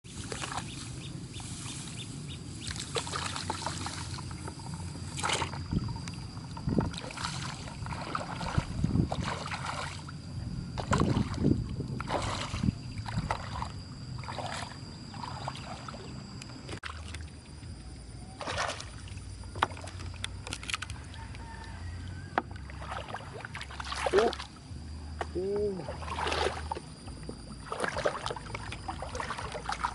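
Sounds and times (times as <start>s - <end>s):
muddy water splashing: 0.1s - 1.6s, 2.6s - 10.2s, 10.8s - 17.4s, 18.2s - 21.2s, 22.5s - 24.6s, 25.2s - 29.9s
faint steady high tone: 0.9s - 22.8s, 23.7s - 29.9s.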